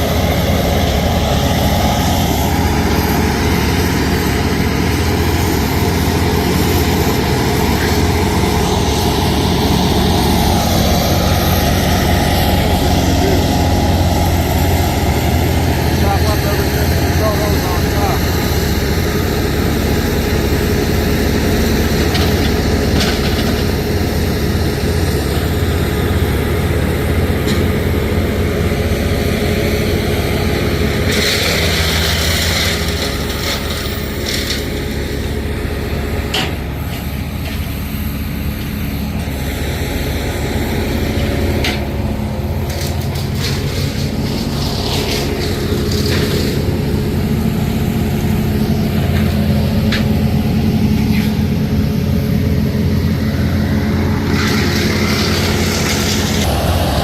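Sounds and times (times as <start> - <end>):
engine humming: 0.0 - 57.0.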